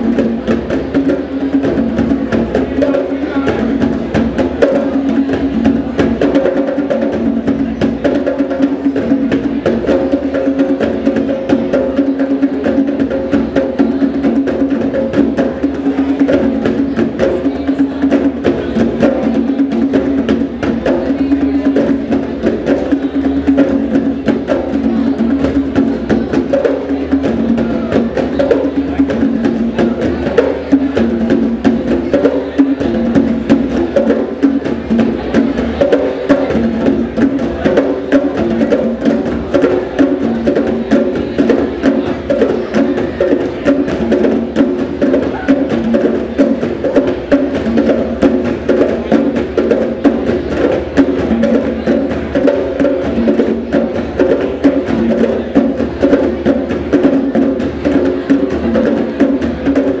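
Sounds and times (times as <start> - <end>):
djembe drums played by hand: 0.0 - 60.0.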